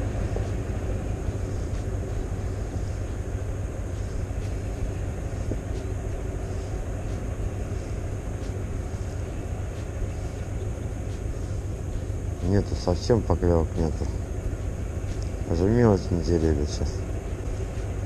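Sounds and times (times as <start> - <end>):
tanker ship engine rumble: 0.0 - 18.0.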